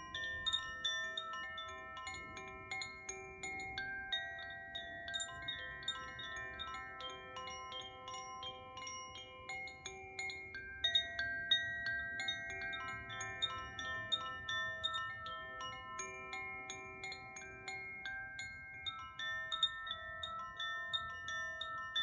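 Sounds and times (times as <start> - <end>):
wind chime ringing: 0.0 - 22.0.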